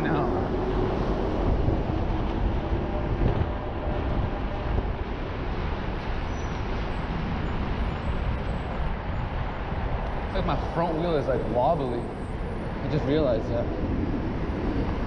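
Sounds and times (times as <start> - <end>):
bicycle tyre noise on road: 0.0 - 15.0
wind rushing over microphone: 0.0 - 15.0.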